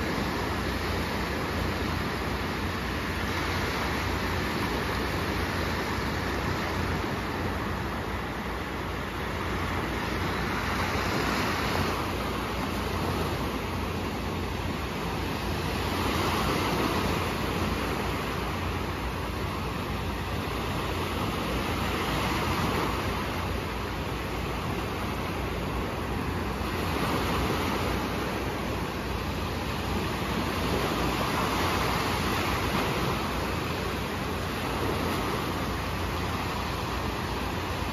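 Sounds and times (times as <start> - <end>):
small waves washing on shore: 0.0 - 37.9.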